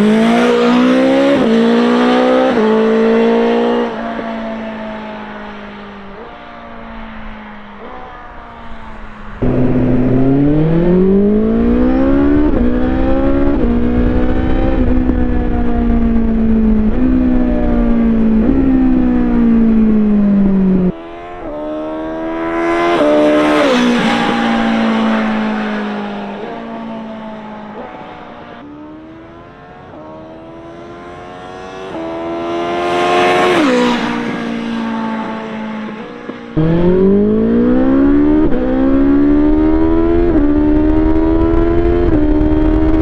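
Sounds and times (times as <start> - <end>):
motorcycle engine revving: 0.0 - 43.0
motorcycle passing by: 0.0 - 43.0.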